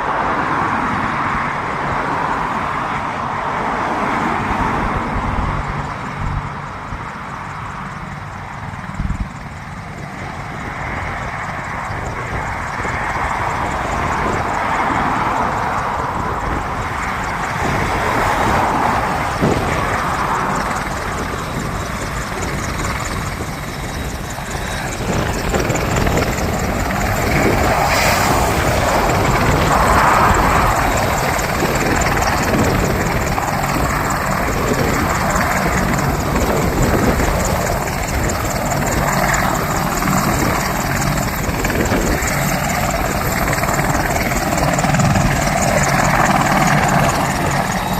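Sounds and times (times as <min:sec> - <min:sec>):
helicopter rotor and turbine: 0:00.0 - 0:47.9.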